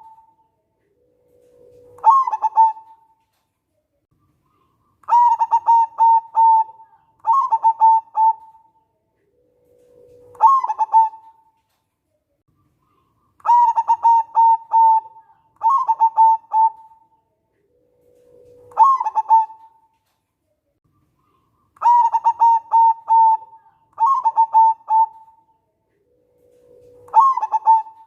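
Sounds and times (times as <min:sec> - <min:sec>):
dove cooing: 0:00.0 - 0:03.2, 0:04.6 - 0:11.5, 0:12.9 - 0:19.9, 0:21.2 - 0:28.0.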